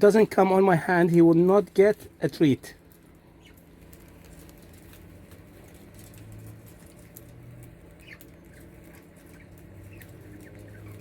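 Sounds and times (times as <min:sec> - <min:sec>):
budgies pecking and scratching: 0:00.0 - 0:11.0.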